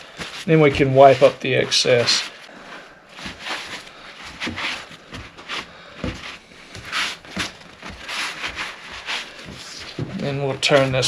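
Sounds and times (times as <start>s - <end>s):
rubbing strokes across wood: 0.0s - 11.0s.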